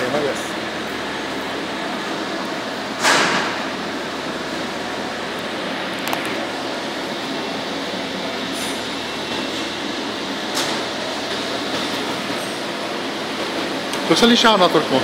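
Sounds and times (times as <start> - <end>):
industrial machinery running: 0.0 - 15.0.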